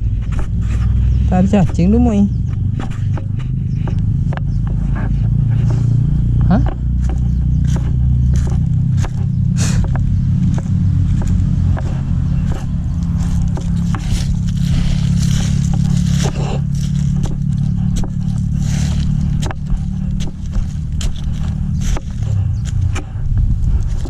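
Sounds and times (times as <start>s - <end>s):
low drone: 0.0s - 24.0s.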